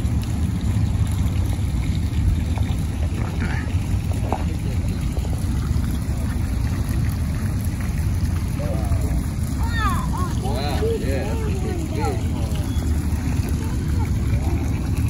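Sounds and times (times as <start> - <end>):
faint water sounds: 0.0 - 15.0.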